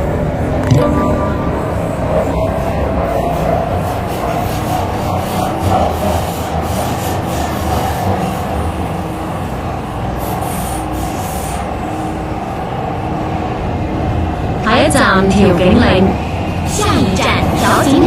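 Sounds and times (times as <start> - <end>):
train interior rumble: 0.0 - 18.0
wheels rushing and scraping on rails: 1.6 - 18.0.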